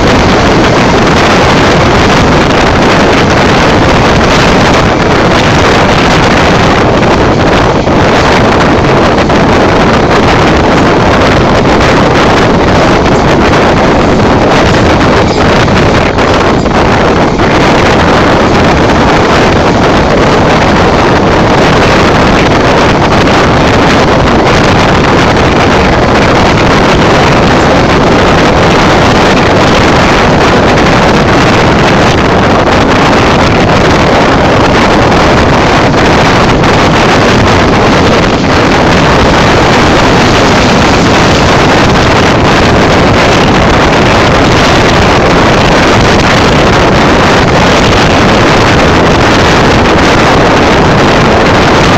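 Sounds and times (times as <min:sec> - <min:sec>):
train rushing at speed: 0:00.0 - 0:51.9.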